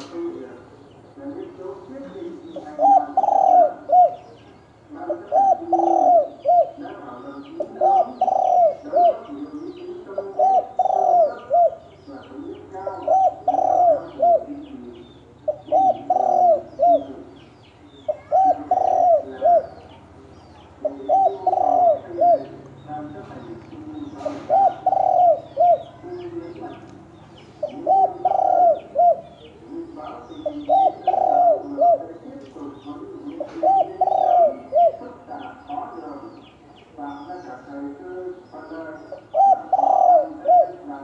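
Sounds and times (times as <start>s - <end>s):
small birds chirping: 0.0s - 41.0s
dove cooing: 1.2s - 41.0s.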